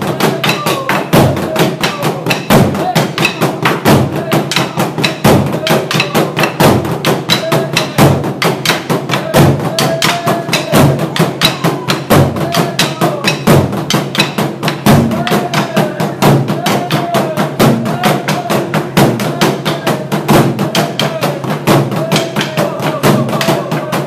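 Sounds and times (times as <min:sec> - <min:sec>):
wooden drums beaten with sticks: 0:00.0 - 0:24.0
people shouting calls: 0:00.1 - 0:14.3, 0:15.1 - 0:24.0.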